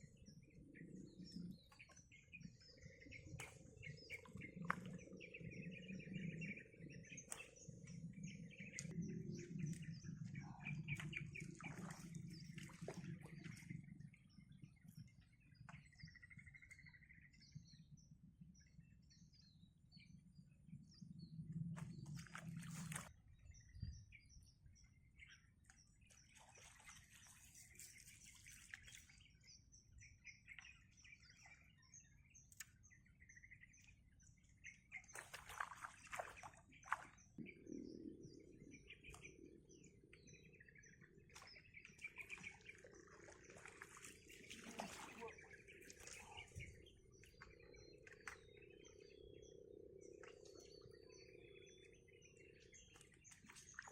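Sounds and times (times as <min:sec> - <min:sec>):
faint birds chirping: 0:00.0 - 0:53.9.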